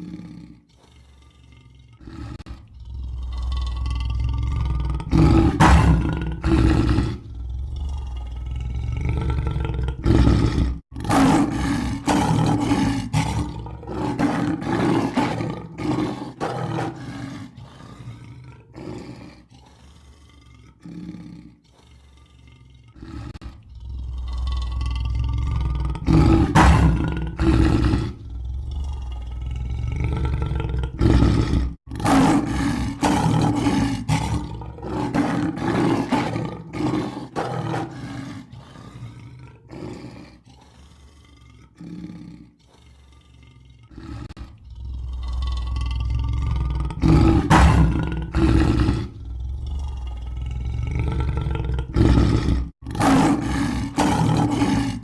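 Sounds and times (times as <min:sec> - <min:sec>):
lion roaring: 0:00.0 - 0:55.0.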